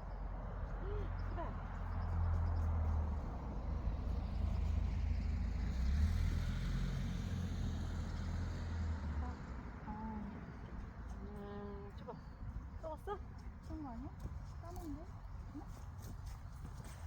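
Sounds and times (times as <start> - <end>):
vehicle engine rumble: 0.0 - 16.8.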